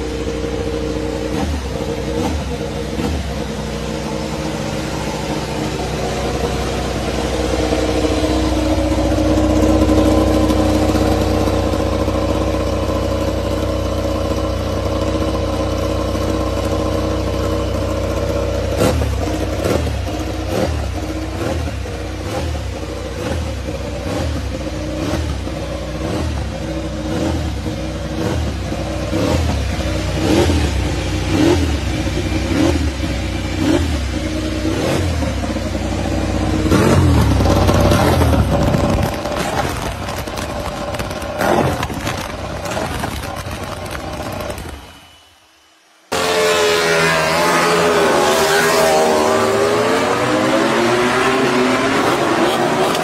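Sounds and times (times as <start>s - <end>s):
race bike engine revving: 0.0s - 44.9s, 46.1s - 53.0s.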